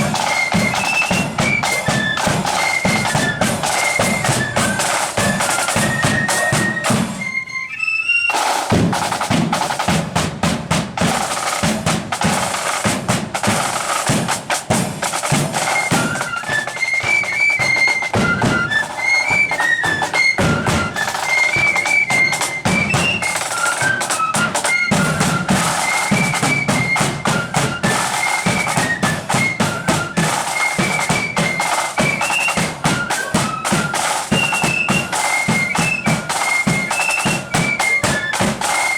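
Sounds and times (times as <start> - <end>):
snare and bass drum strokes: 0.0 - 7.4, 8.3 - 38.9
shrill high melody: 0.0 - 9.2, 15.6 - 38.9.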